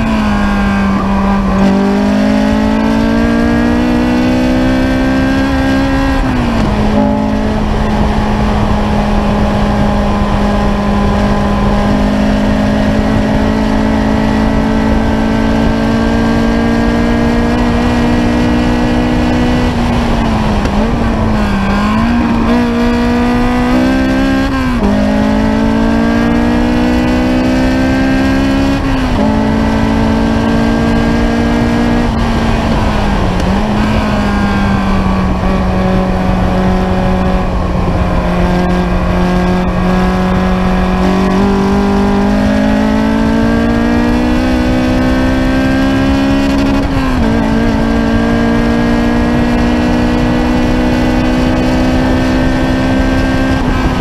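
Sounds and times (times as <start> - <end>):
car engine revving with upshifts: 0.0 - 54.0.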